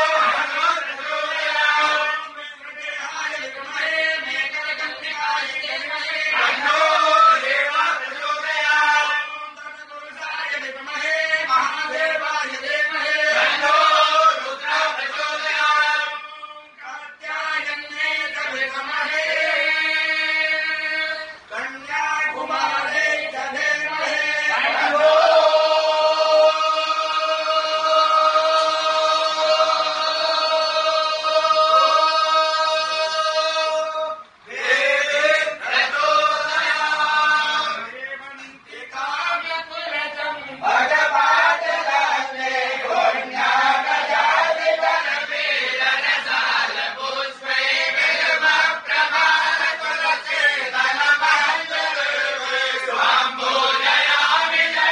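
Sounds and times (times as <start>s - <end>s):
men chanting a hymn: 0.0s - 54.9s.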